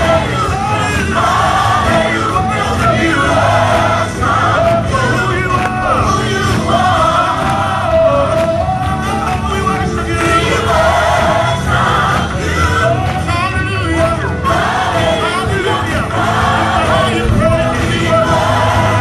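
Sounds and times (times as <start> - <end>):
bass-heavy band: 0.0 - 19.0
gospel singing voices: 0.0 - 19.0.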